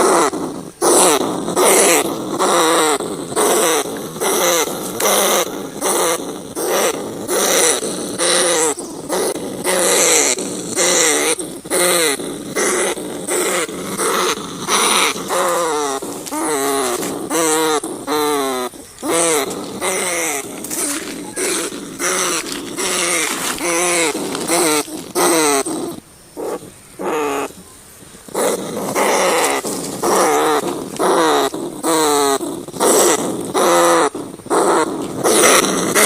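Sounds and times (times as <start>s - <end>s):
rats squealing: 0.0s - 36.0s.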